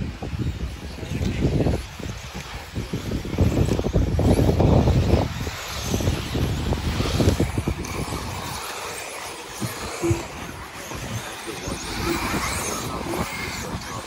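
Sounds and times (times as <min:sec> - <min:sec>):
wind buffeting microphone: 0:00.0 - 0:14.0
rc car motor whine: 0:00.4 - 0:14.0.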